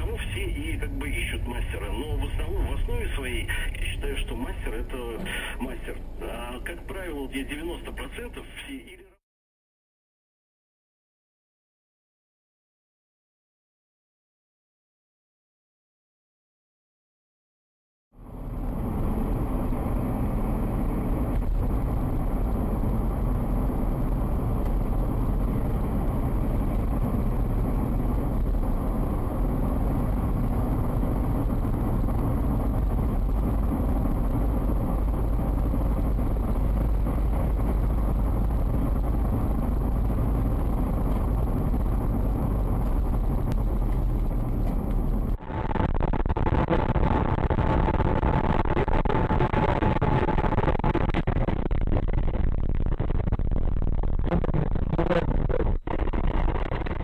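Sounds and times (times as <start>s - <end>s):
car road and engine rumble: 0.0s - 9.1s, 18.2s - 57.0s.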